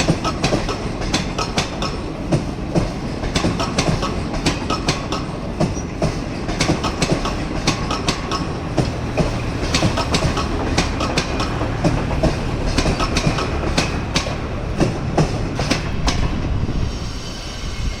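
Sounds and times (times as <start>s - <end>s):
train wheels clattering over rail joints: 0.0s - 16.6s
train coaches rumbling: 0.0s - 18.0s.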